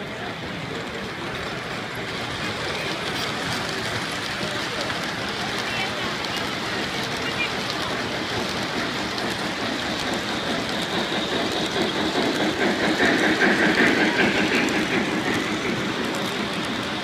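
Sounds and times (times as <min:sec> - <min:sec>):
model train wheels clattering: 0:00.0 - 0:17.0.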